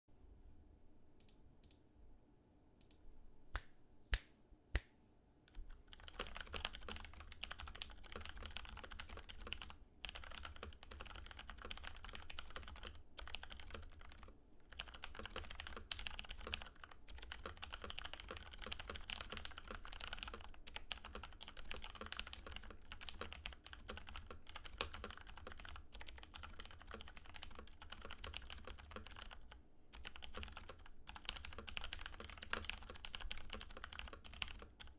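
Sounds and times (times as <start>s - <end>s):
mechanical keyboard typing: 5.5s - 34.9s.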